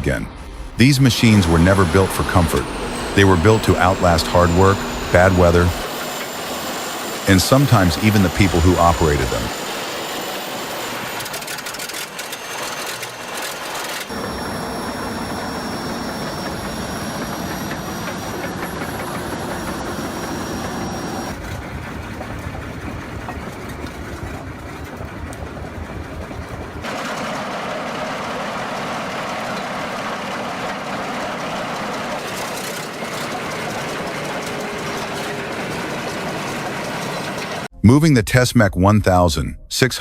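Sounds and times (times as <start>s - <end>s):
large diesel engine running: 0.0s - 37.7s.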